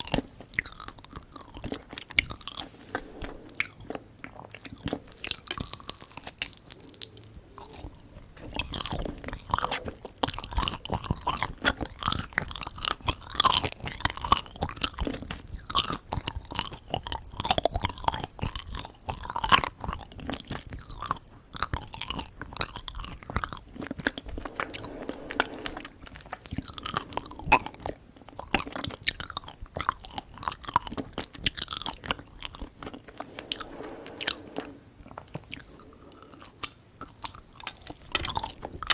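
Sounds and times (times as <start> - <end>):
chewing sticky sweets: 0.0 - 2.7, 3.5 - 24.6, 25.7 - 33.4, 35.0 - 38.9.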